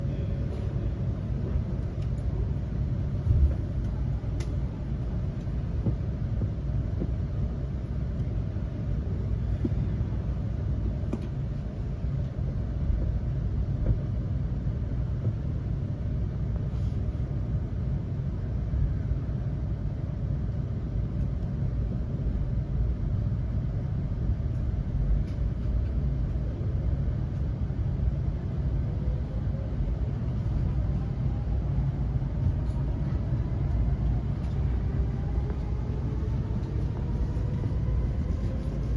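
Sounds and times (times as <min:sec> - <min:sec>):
train rumble from inside: 0:00.0 - 0:38.9.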